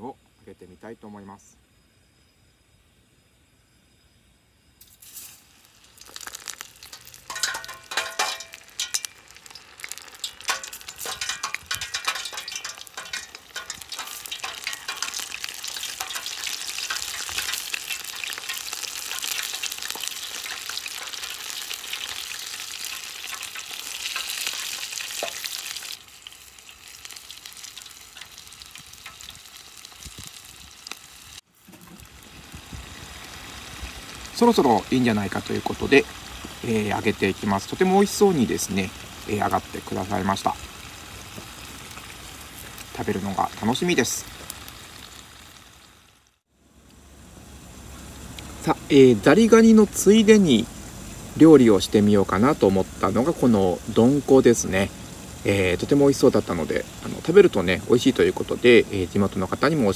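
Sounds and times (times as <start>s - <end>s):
food deep-frying in hot oil: 4.8s - 59.9s.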